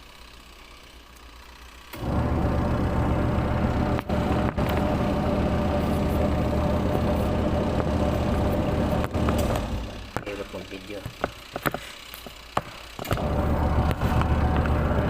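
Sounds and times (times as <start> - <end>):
washing machine motor humming: 0.0 - 10.6, 12.9 - 15.0.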